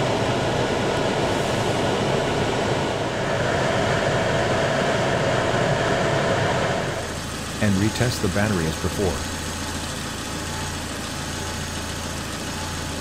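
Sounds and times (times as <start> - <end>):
car engine idling: 0.0 - 13.0
car heater fan rushing: 0.0 - 13.0.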